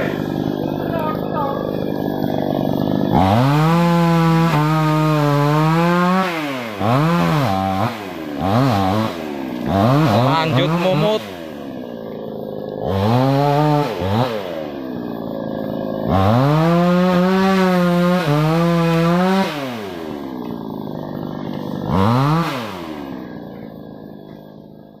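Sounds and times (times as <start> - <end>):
chainsaw revving and idling: 0.0 - 25.0.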